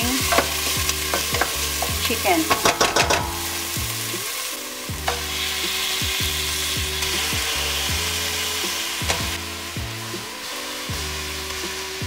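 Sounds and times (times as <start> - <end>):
background music with beat: 0.0 - 12.0
onion and garlic sizzling in oil: 0.0 - 12.0.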